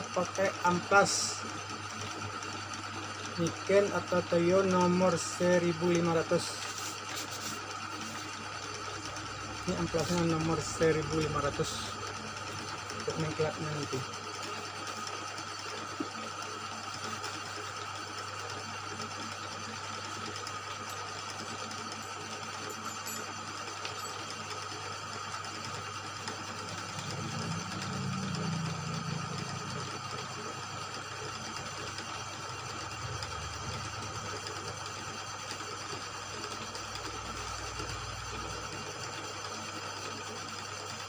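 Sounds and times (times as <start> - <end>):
machine motor whining: 0.0 - 19.5, 20.1 - 39.2.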